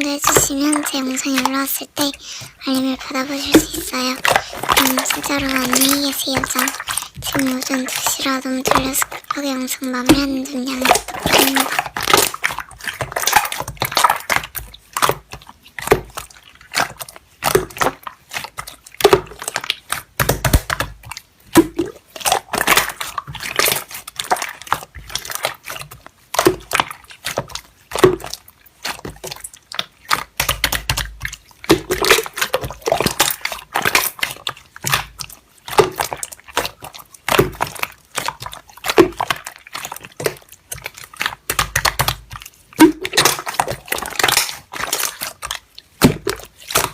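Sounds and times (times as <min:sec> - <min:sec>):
slime squishing with wet pops: 0:00.0 - 0:46.9.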